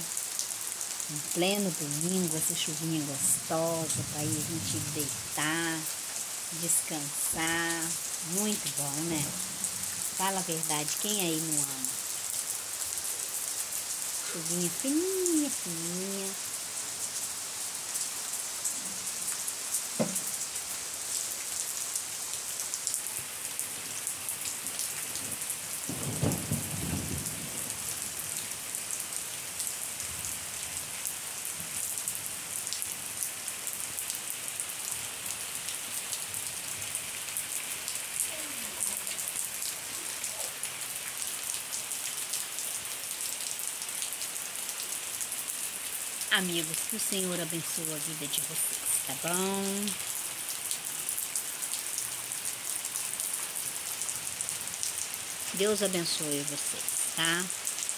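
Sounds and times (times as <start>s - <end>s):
light rain pattering: 0.0s - 57.9s.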